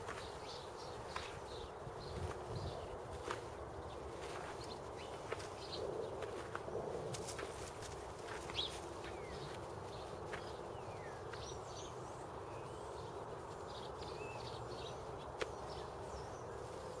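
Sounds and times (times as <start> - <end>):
outdoor background noise: 0.0 - 17.0
small birds chirping faintly: 0.0 - 17.0.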